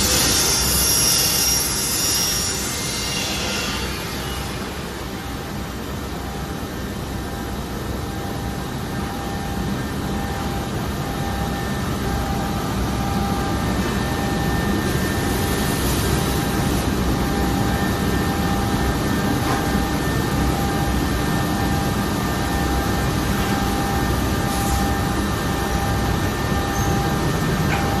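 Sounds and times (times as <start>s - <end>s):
cnc router running: 0.0s - 28.0s.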